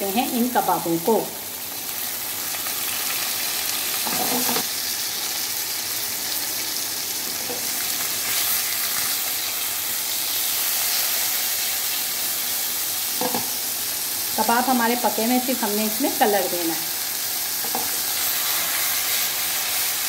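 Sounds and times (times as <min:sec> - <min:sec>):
kebabs sizzling in hot oil: 0:00.0 - 0:20.0.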